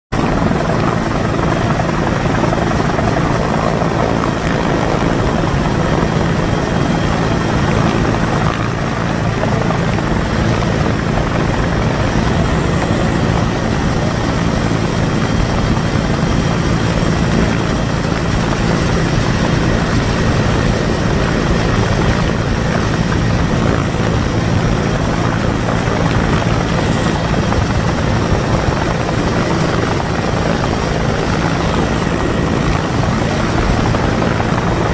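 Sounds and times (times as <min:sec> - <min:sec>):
helicopter rotor and engines: 0:00.1 - 0:34.9.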